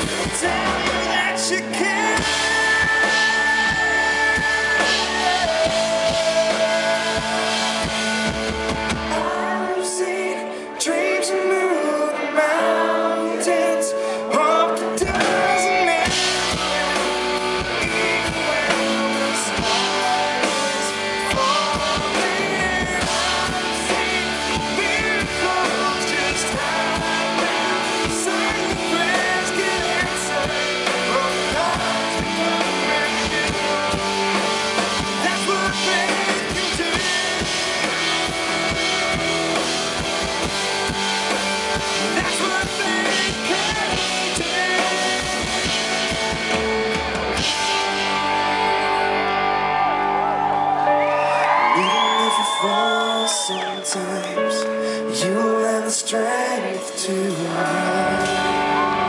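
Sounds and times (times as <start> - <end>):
drum kit: 0.0 - 10.1, 14.8 - 50.8, 57.2 - 59.0
bass guitar: 0.0 - 12.6, 14.3 - 53.8, 57.1 - 59.0
electric guitars: 0.0 - 59.0.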